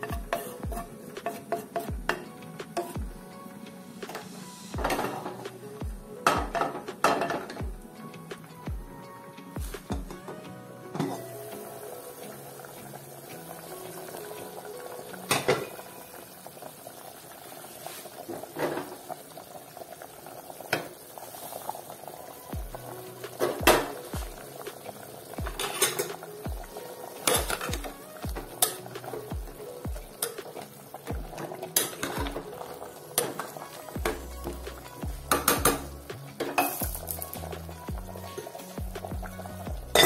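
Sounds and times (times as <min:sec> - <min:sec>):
stew boiling in a pot: 0:00.0 - 0:09.0, 0:11.0 - 0:40.0.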